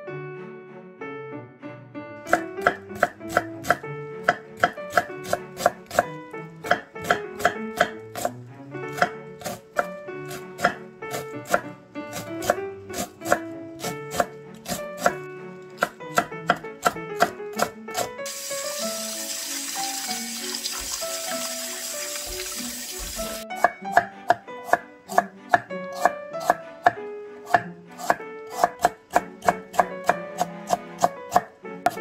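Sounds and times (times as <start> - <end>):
light background music: 0.0 - 32.0
knife chopping on wooden board: 2.3 - 18.4, 22.2 - 32.0.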